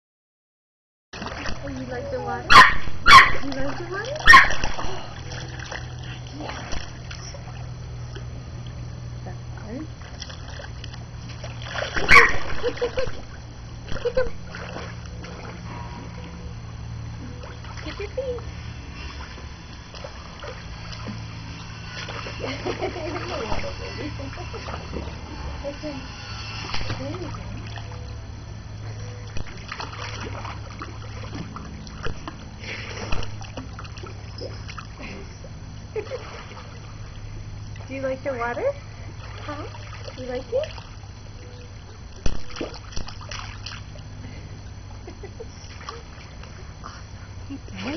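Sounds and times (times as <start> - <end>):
pool water splashing: 1.2 - 47.9
steady low hum: 1.2 - 47.9.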